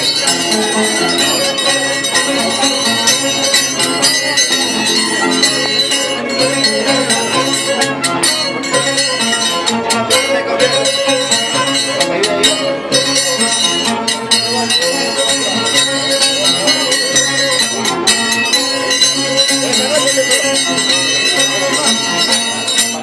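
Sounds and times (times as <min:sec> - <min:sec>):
harp: 0:00.0 - 0:23.0
violin: 0:00.0 - 0:23.0.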